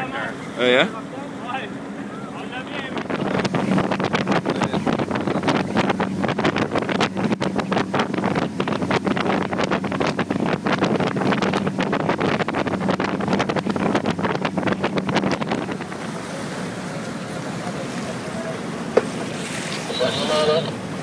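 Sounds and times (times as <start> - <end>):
boat engine drone: 0.0 - 21.0
wind buffeting microphone: 1.8 - 19.7.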